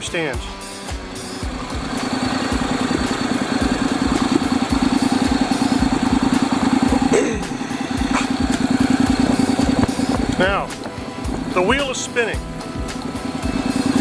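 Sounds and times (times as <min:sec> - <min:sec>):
motorcycle engine idling: 0:00.5 - 0:14.0.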